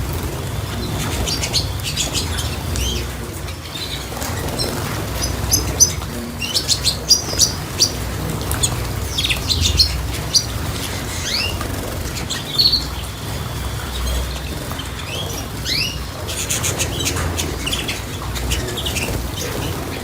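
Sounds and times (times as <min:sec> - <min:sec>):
small birds chirping: 0:00.0 - 0:20.0
wings fluttering: 0:00.0 - 0:20.0.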